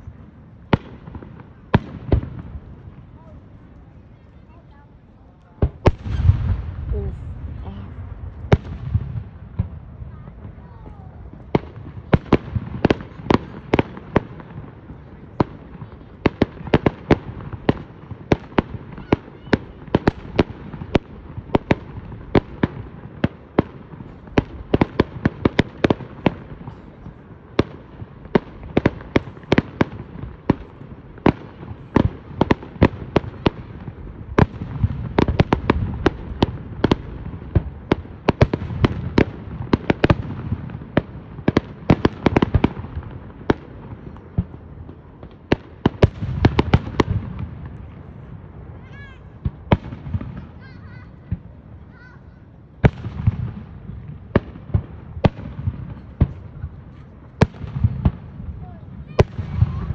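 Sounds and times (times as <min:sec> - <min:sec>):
continuous rumble: 0:00.0 - 0:59.9
fireworks bangs and cracks: 0:00.0 - 0:59.9.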